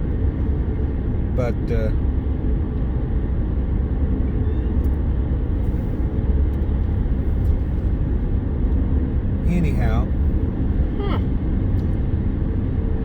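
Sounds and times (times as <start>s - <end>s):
road and wind rumble in car: 0.0s - 13.0s.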